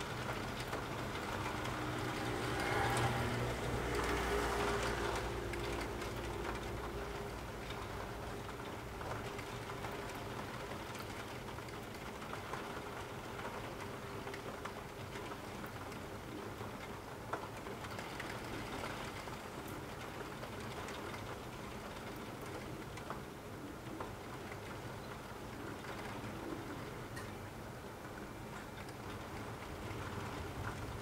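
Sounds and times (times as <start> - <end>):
raindrops tapping: 0.0 - 31.0
steady rain: 0.0 - 31.0.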